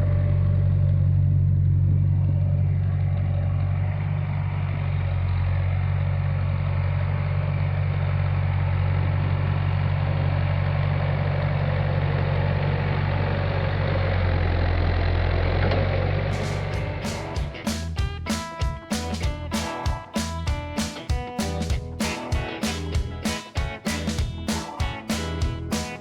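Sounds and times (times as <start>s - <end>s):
backhoe engine idling: 0.0s - 26.0s.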